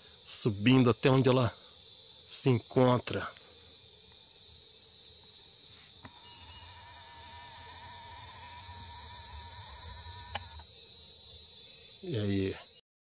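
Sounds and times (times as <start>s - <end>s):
high-pitched insect trilling: 0.0s - 12.8s.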